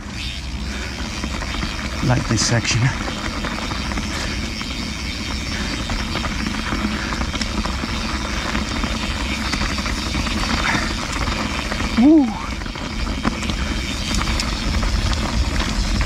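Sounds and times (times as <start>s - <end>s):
bike tyre noise: 0.0s - 16.0s
wind buffeting microphone: 0.0s - 16.0s.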